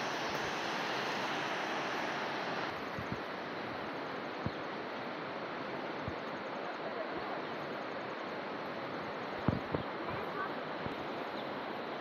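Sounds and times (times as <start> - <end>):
rushing wind or water: 0.0 - 12.0.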